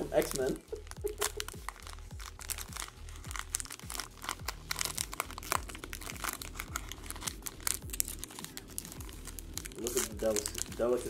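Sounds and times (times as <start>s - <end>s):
background music with steady beat: 0.0s - 11.0s
foil wrapper crinkling: 0.0s - 11.0s.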